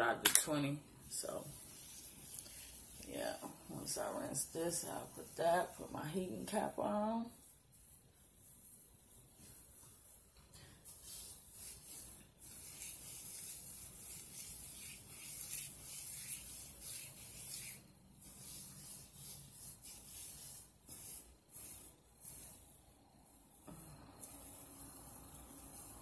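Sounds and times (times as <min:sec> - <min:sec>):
hands rubbing through hair: 0:01.1 - 0:22.8.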